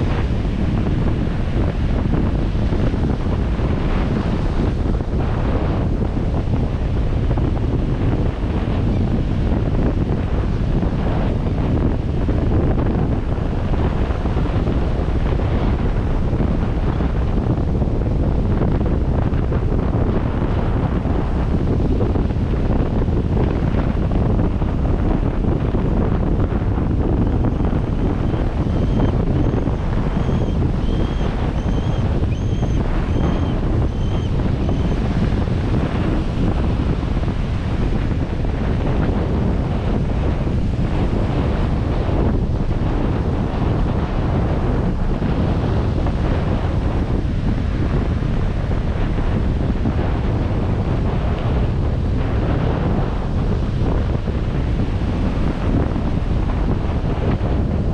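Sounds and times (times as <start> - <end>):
surf: 0.0 - 57.9
wind buffeting microphone: 0.0 - 57.9.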